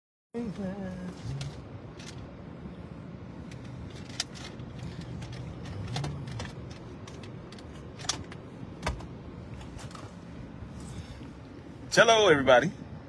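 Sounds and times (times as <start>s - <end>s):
car cabin rumble: 0.4s - 12.7s.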